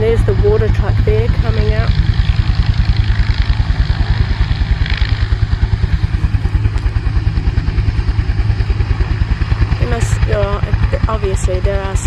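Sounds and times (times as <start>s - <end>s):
helicopter rotor blades beating: 0.0s - 12.0s
turbine hum: 0.0s - 12.0s.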